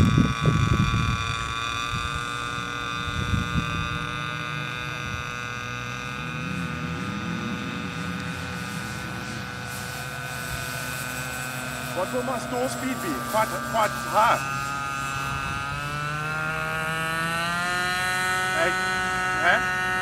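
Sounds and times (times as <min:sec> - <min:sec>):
wind buffeting microphone: 0:00.0 - 0:19.1
electric motor and propeller whine: 0:00.0 - 0:20.0.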